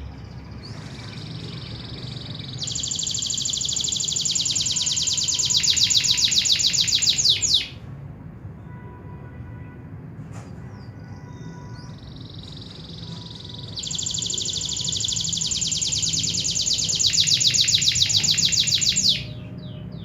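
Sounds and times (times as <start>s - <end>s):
canary trilling: 0.3s - 7.8s, 11.3s - 20.0s.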